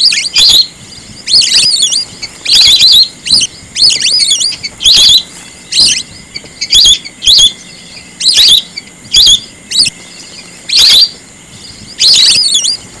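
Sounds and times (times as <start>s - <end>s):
whistling duck calls: 0.0s - 11.2s, 11.9s - 12.8s.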